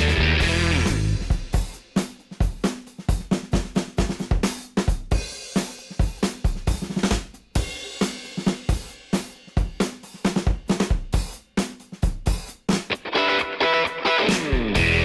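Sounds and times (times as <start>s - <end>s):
drum kit playing busy beat: 0.0s - 13.0s, 14.2s - 15.0s.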